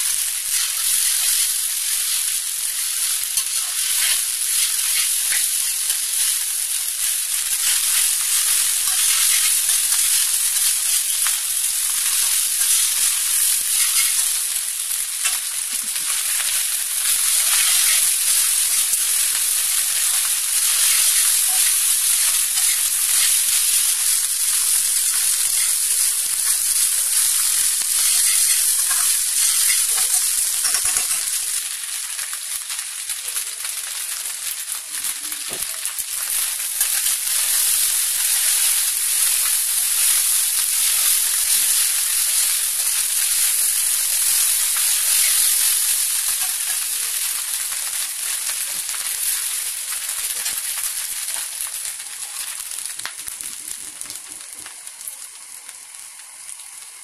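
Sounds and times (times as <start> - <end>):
spatula stirring food: 0.0 - 55.0
rice sizzling in a pan: 0.0 - 57.0.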